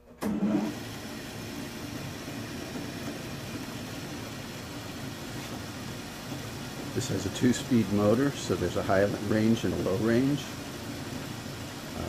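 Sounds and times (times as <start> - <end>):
lathe running: 0.2 - 12.0.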